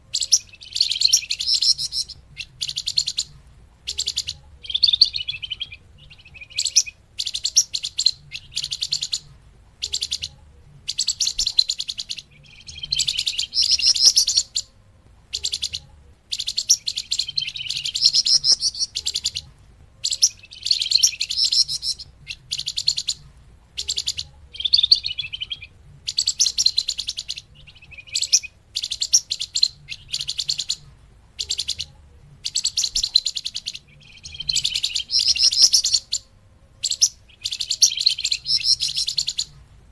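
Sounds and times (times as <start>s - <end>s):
bird twittering: 0.0s - 39.6s.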